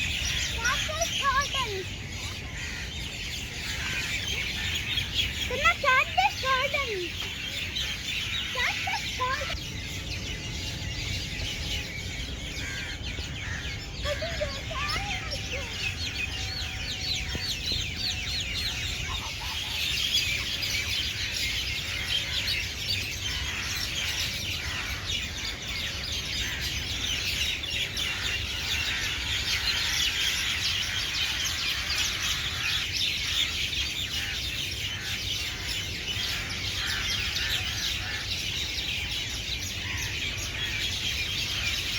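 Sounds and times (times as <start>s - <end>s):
small birds chirping chorus: 0.0s - 41.9s.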